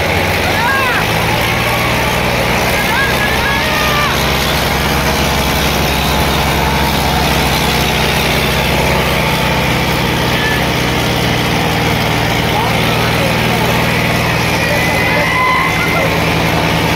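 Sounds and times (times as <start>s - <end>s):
tractor diesel engine under load: 0.0s - 16.9s.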